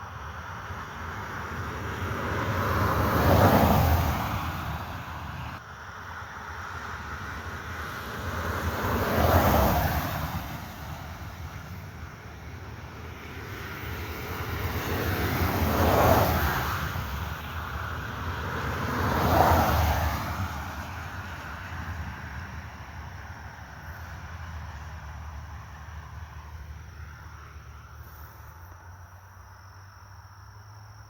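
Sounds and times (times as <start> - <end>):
road vehicles passing: 0.0 - 31.0.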